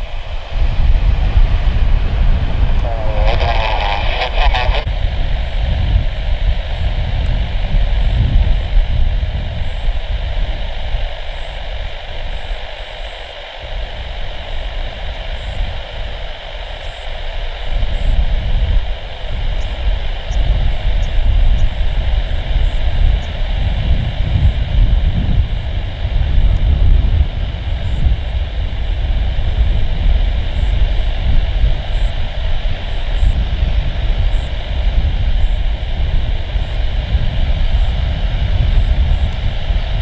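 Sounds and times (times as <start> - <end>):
jet engine hiss and rumble: 0.0 - 40.0.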